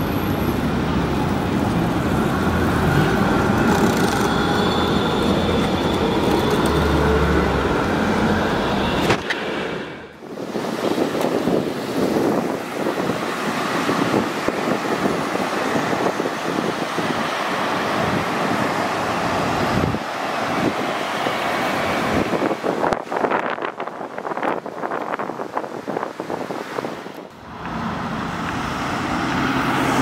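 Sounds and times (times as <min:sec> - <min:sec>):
public transport vehicle rushing: 0:00.0 - 0:30.0
wind buffeting microphone: 0:00.5 - 0:30.0.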